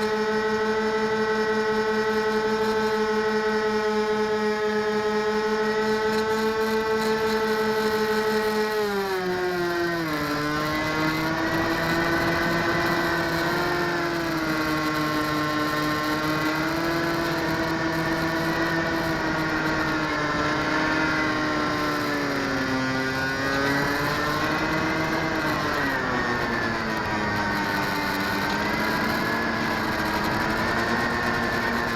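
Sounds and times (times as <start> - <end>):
model airplane motor buzzing: 0.0 - 31.9.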